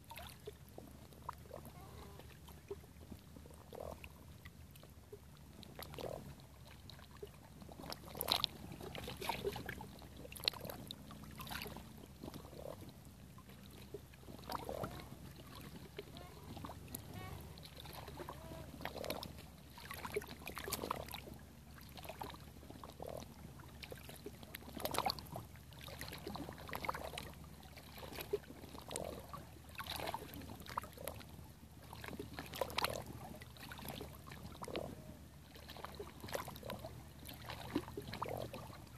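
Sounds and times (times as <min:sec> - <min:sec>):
small waves lapping on rocks: 0:00.0 - 0:38.9.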